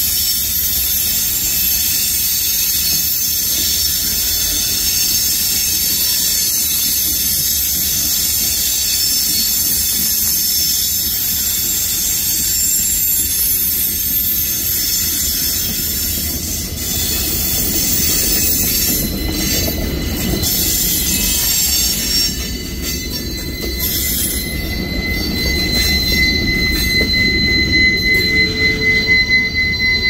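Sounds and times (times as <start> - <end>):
high-pitched brake screech: 0.0 - 30.0
train low rumble: 0.0 - 30.0.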